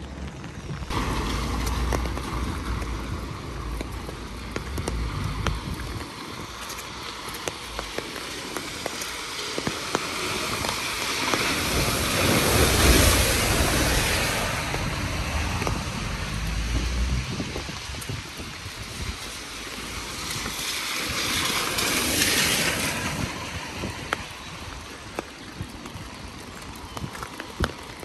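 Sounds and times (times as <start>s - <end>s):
rain on street: 0.0s - 28.0s
traffic hissing on wet road: 0.0s - 28.0s.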